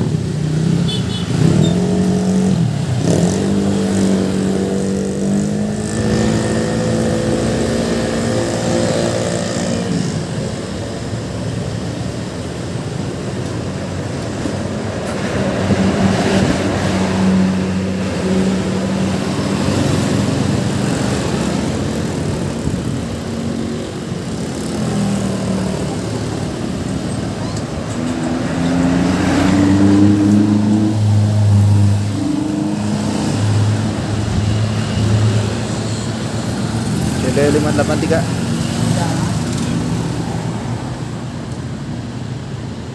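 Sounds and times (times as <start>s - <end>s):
bus traffic passing: 0.0s - 42.9s.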